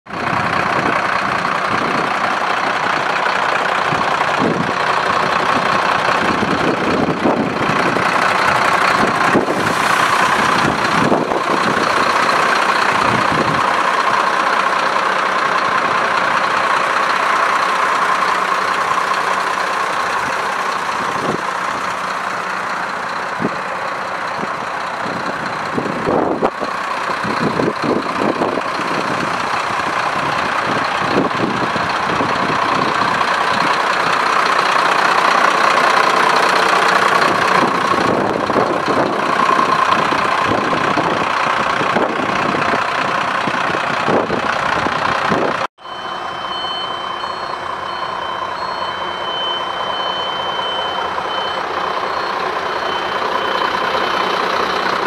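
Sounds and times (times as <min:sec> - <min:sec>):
truck diesel engine idling: 0:00.1 - 0:55.0.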